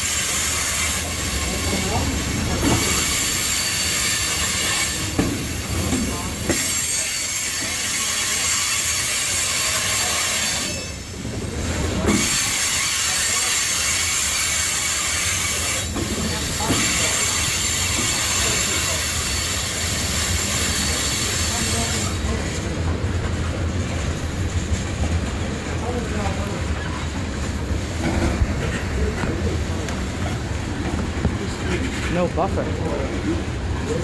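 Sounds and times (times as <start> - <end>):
freight train wheels rolling: 0.0 - 34.0
wheels clacking over rail joints: 0.0 - 34.0.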